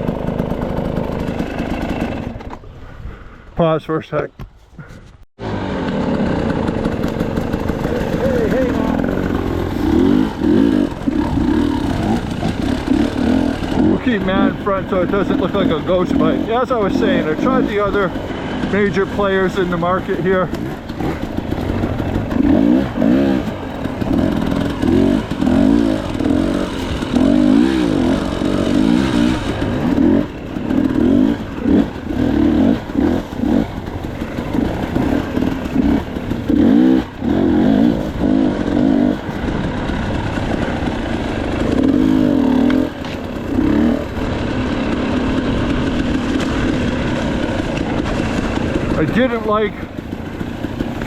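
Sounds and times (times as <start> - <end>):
two-stroke engine revving: 0.0 - 2.5, 5.4 - 51.0.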